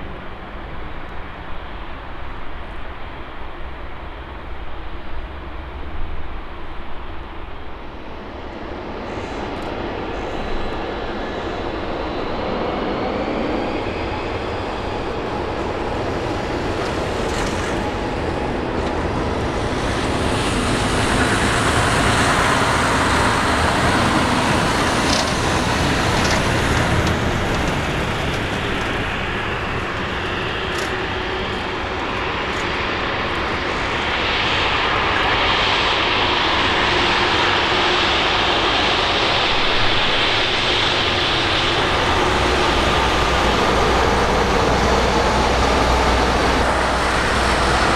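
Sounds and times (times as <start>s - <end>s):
jet engine roar: 0.0s - 47.9s.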